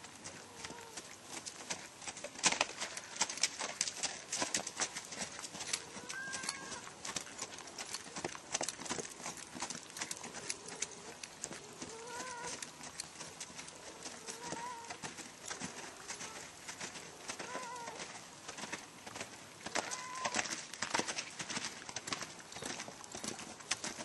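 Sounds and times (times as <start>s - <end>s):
hoofbeats on frozen ground: 0.0s - 24.0s.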